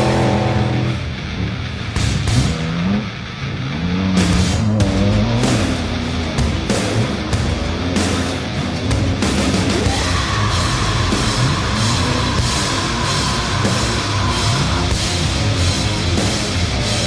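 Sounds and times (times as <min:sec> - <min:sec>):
heavy rock music with drums: 0:00.0 - 0:17.0.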